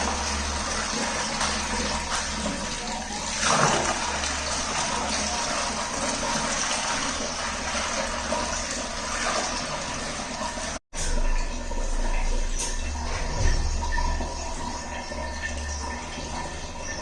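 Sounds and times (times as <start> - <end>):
water gushing and splashing: 0.0 - 17.0.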